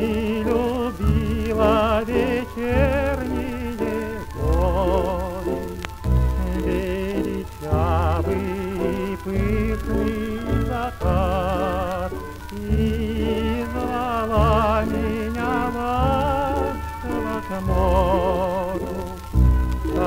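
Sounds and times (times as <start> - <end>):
jazz orchestra waltz on record: 0.0 - 20.0.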